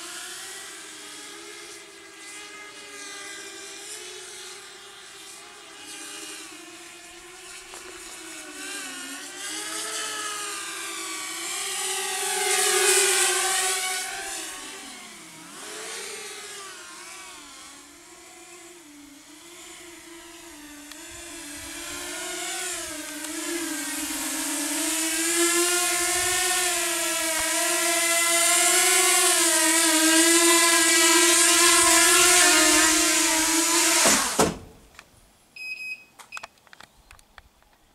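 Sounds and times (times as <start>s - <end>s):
quadcopter motors whining: 0.0s - 35.0s.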